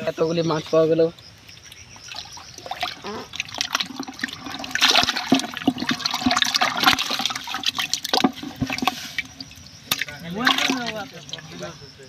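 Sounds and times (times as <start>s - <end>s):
water splashing in a plastic bucket: 1.5s - 11.8s
fish thrashing in water: 2.0s - 11.7s.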